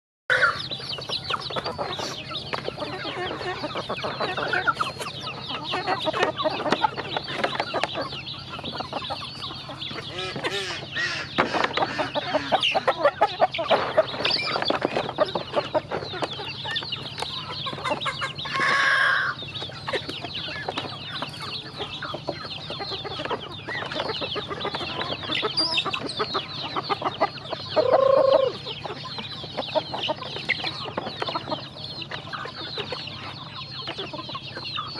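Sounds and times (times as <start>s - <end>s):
chickens clucking: 0.3s - 34.9s
drawn-out bird calls: 0.3s - 34.9s.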